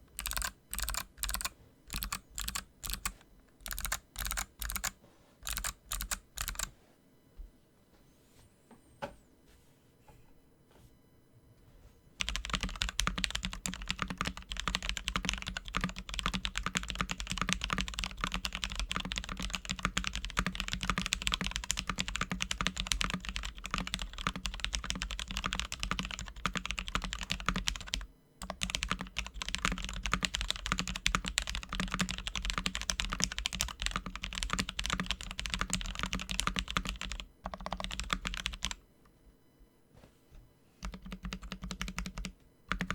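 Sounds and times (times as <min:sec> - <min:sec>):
fast typing on mechanical keyboard: 0:00.2 - 0:06.7, 0:12.2 - 0:38.8, 0:40.8 - 0:42.9.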